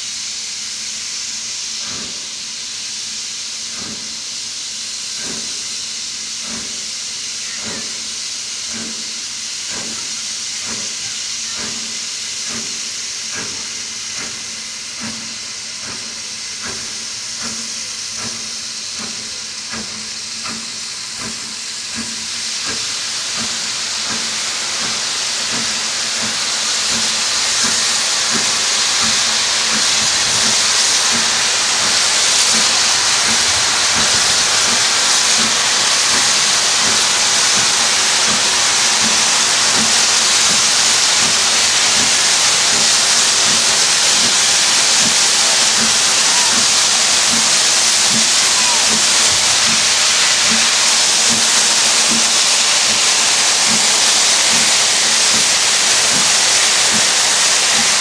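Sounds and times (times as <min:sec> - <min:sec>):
hiss of escaping steam: 0:00.0 - 0:58.0
steam locomotive exhaust chuffs: 0:00.0 - 0:58.0.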